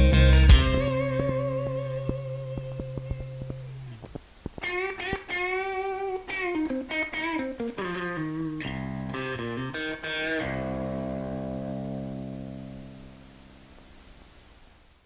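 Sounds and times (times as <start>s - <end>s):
guitar lead line and chords: 0.0s - 14.1s.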